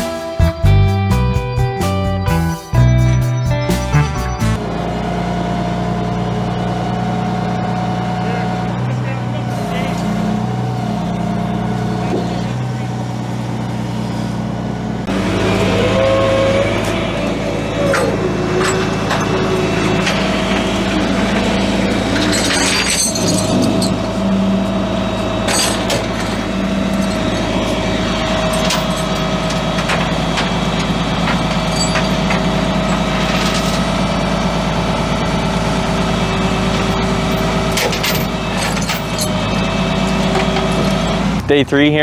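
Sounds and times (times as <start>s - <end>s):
diesel truck engine running: 0.0s - 42.0s
hydraulic whine: 4.3s - 41.5s.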